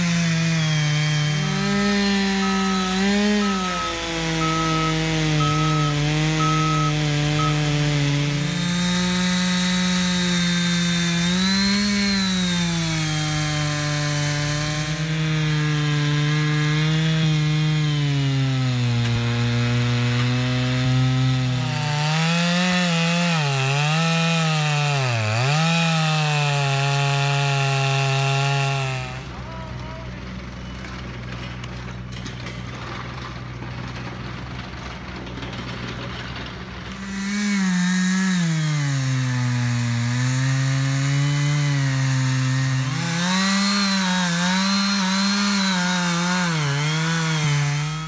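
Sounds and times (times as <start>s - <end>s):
chainsaw cutting wood: 0.0s - 48.0s.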